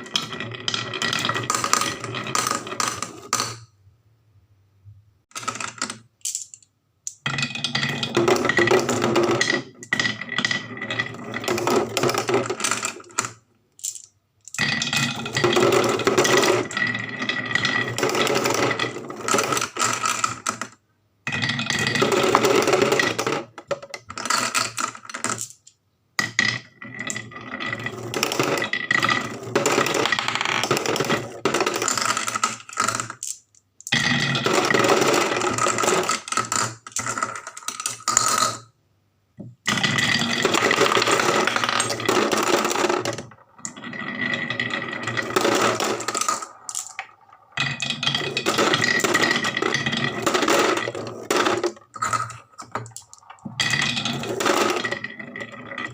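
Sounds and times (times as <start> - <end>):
marbles clattering down wooden track: 0.0 - 3.7, 5.3 - 38.7, 39.6 - 55.9.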